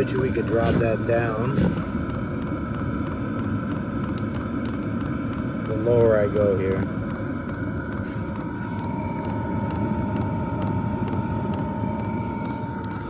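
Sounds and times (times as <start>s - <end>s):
heater blower rushing with whine: 0.0s - 13.0s.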